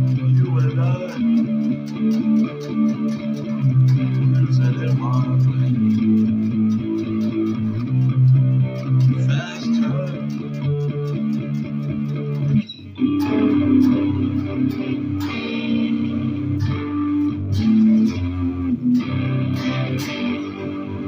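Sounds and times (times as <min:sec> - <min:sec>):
electric guitar strumming chords: 0:00.0 - 0:21.0.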